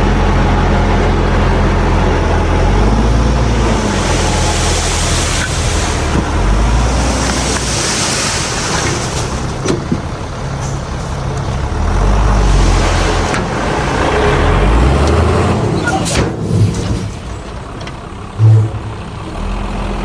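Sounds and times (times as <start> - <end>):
diesel machinery rumbling: 0.0 - 20.0.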